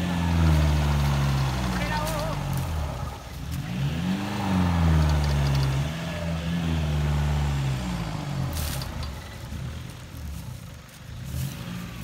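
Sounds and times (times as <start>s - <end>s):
pickup truck engine revving: 0.0s - 10.4s, 11.1s - 12.0s.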